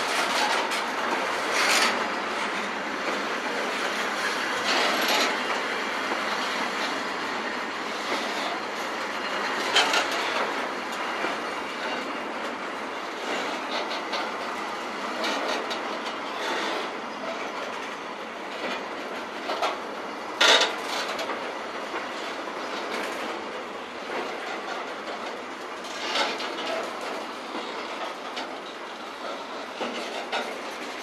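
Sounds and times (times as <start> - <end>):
train wheels rushing: 0.0 - 31.0
wheels clacking over rail joints: 0.0 - 31.0.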